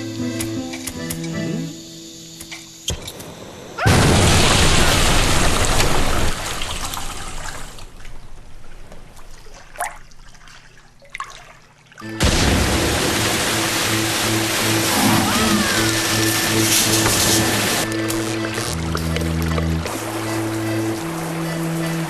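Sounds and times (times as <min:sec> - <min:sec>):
water splashing: 0:04.2 - 0:22.0.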